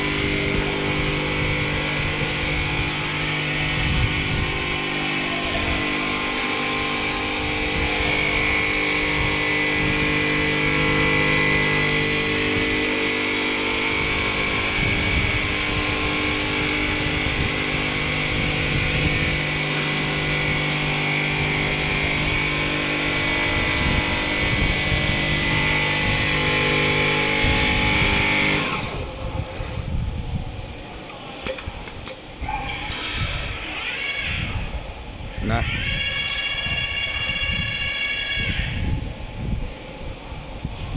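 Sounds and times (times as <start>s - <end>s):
quilting machine humming and whining: 0.0s - 40.9s.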